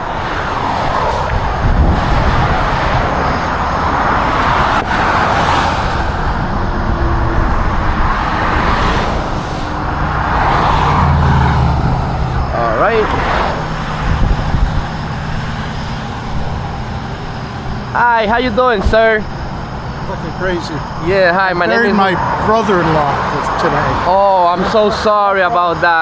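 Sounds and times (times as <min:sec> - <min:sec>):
low engine hum: 0:00.0 - 0:25.9
road noise: 0:00.0 - 0:26.0.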